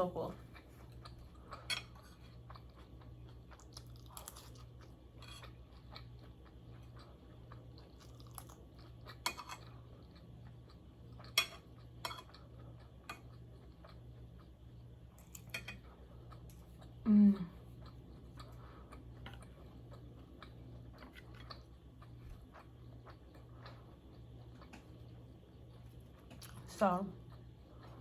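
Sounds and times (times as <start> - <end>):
chewing and crunching food: 0.0 - 28.0
faint pulsing low hum: 0.0 - 28.0.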